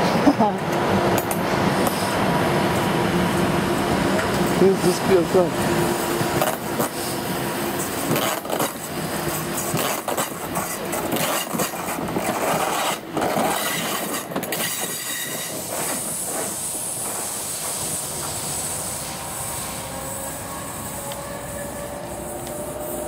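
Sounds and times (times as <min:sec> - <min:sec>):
train running on rails: 0:00.0 - 0:23.0.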